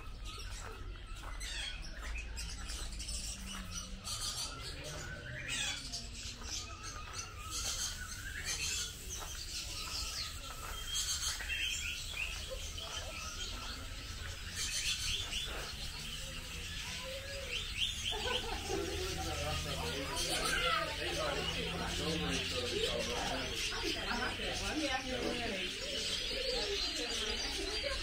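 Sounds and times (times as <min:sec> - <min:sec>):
small birds chirping: 0:00.0 - 0:28.0
voices: 0:00.0 - 0:28.0.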